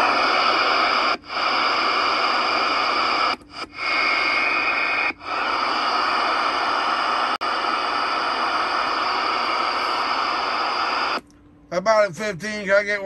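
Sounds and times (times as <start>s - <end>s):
radio static hissing: 0.0s - 11.2s.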